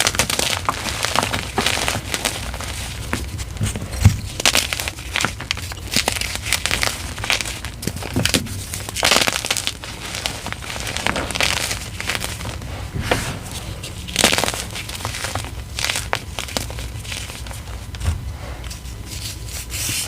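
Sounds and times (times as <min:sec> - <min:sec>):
dry crunching and crackling: 0:00.0 - 0:18.1.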